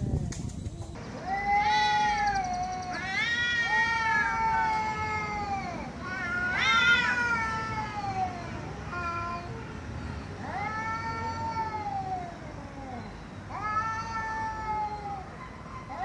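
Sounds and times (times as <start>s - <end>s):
cat meowing: 1.2s - 9.6s, 10.4s - 16.0s.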